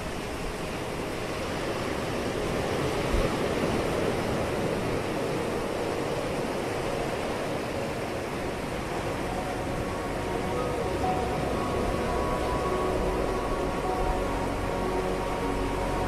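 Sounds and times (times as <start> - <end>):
ocean surf washing: 0.0 - 16.0.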